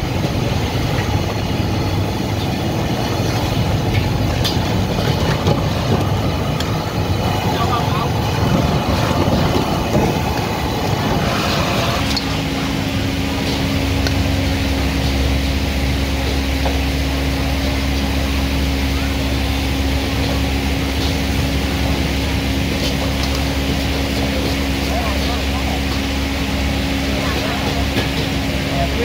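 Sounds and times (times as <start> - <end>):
gas burner roaring: 0.0 - 29.0.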